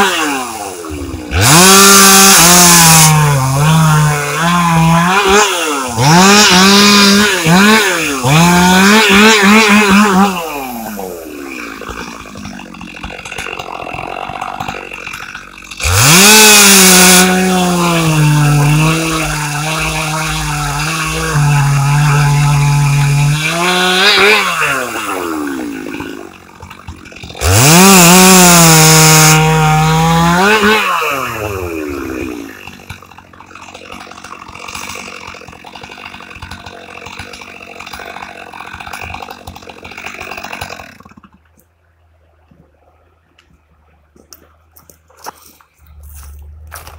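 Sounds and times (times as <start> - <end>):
chain cutting through wood: 0.0 - 41.4
chainsaw running and revving: 0.0 - 41.4, 45.2 - 46.9.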